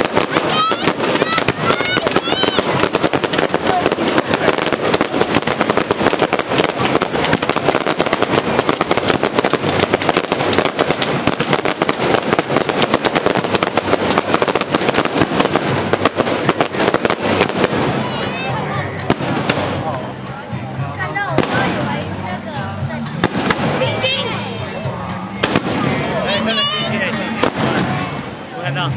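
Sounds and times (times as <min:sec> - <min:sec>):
fireworks crackling and banging: 0:00.0 - 0:28.9.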